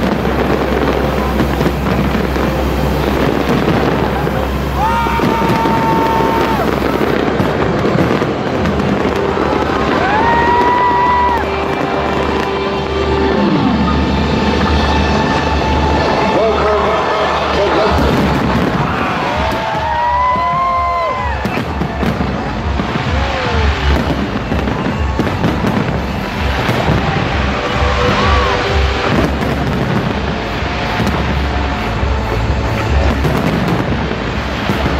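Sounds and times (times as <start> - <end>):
fireworks crackling and popping: 0.0 - 34.9.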